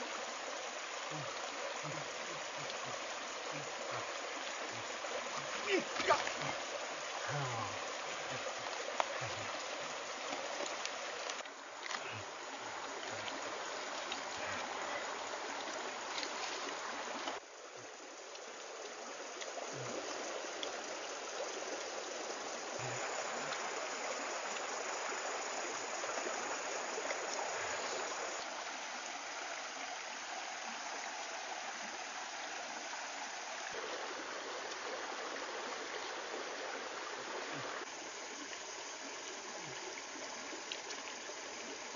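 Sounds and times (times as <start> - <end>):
stream running over rocks: 0.0 - 41.9.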